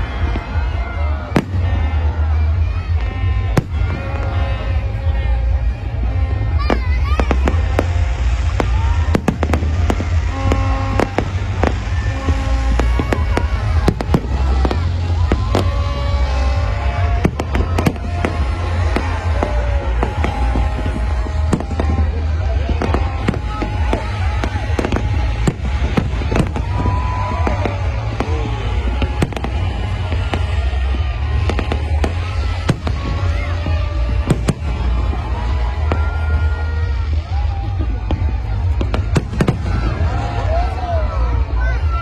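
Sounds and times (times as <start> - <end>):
deep rumble: 0.0 - 42.0
fireworks bangs: 0.0 - 42.0
music playing: 0.0 - 42.0.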